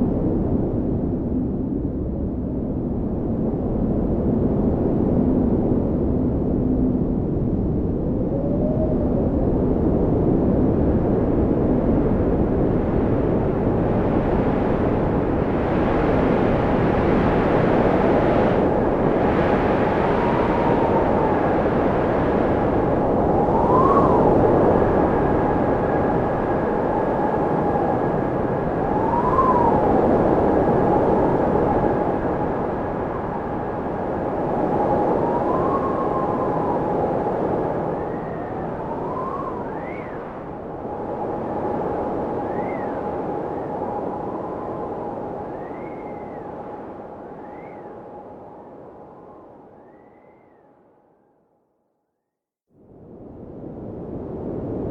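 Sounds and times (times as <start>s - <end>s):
wind blowing: 3.2s - 50.5s.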